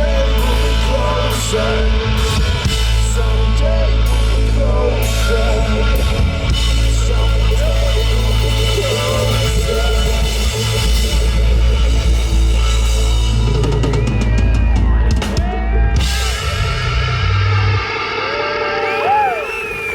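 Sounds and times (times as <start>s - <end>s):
rock band playing loudly: 0.0s - 19.9s.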